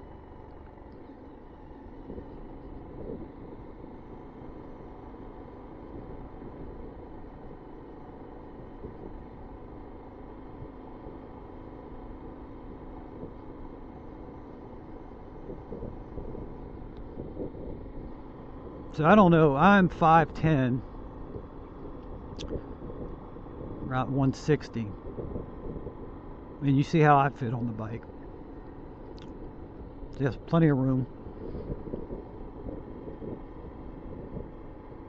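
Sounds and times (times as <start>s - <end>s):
motorcycle engine running: 0.0s - 35.0s
road and wind noise: 0.0s - 35.0s.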